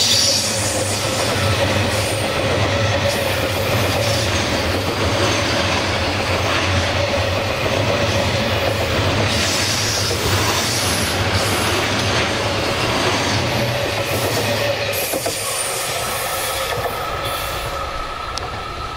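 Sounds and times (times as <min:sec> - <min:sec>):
freight train wheels rumbling: 0:00.0 - 0:18.9.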